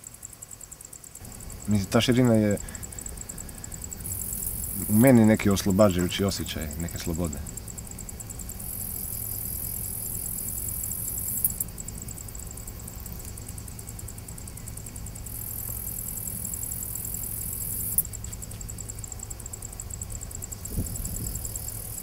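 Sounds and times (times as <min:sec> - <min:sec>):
insects chirring: 0:00.0 - 0:22.0
steady low rumble: 0:01.2 - 0:22.0.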